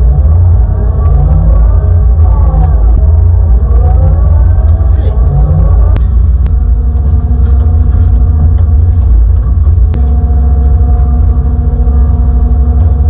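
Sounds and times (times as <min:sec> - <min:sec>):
excavator engine deep rumble: 0:00.0 - 0:13.0
higher steady hum: 0:00.0 - 0:13.0.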